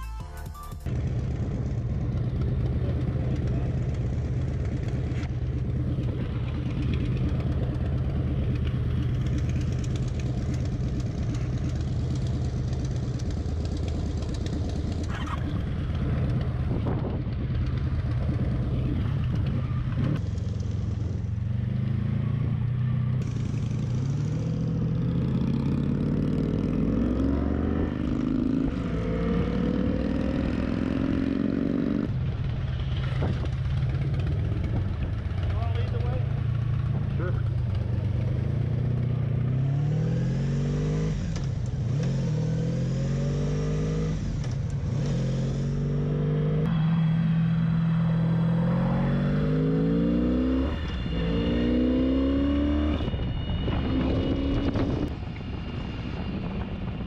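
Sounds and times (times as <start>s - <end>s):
motorcycle engine accelerating: 0.8s - 57.0s.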